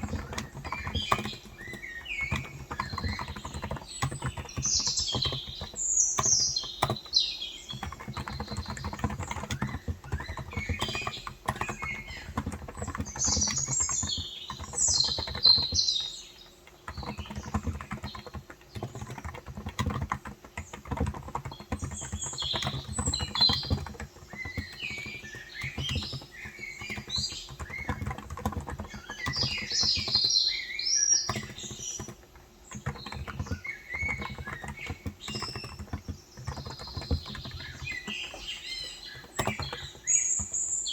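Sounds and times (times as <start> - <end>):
fast keyboard typing: 0.0 - 40.9
small birds chirping: 0.0 - 40.9.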